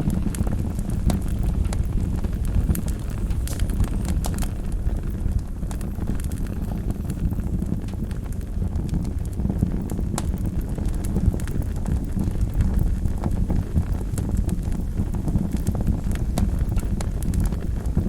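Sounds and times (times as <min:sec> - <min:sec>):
burning logs crackling and popping: 0:00.0 - 0:18.0
flames rumbling: 0:00.0 - 0:18.0.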